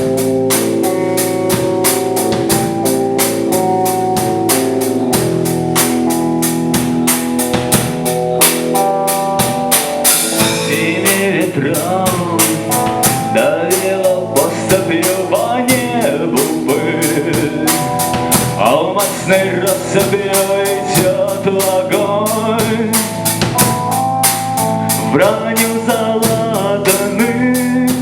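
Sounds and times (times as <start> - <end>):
drum kit beat: 0.0 - 28.0
rock band playing: 0.0 - 28.0
wavering lead melody: 0.0 - 28.0.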